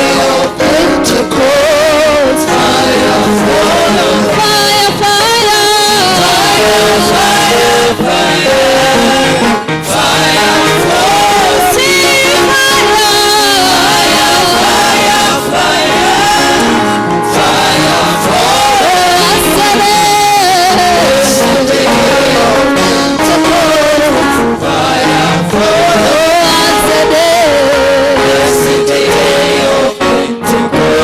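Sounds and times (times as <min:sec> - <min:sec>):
gospel singing over a band: 0:00.0 - 0:31.0.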